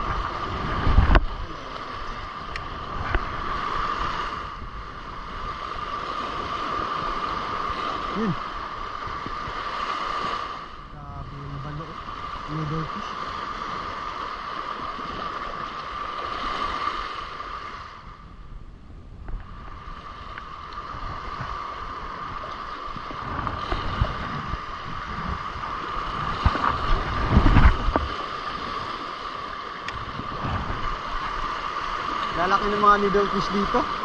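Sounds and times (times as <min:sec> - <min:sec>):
surf breaking over rocks: 0:00.0 - 0:18.1, 0:19.2 - 0:34.0.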